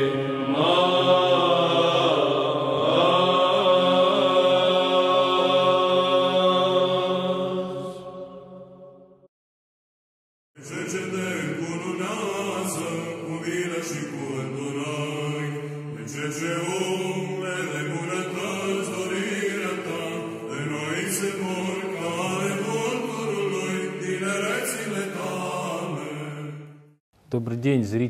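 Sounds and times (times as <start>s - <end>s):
voices chanting a slow melody: 0.0s - 9.0s, 10.6s - 27.0s.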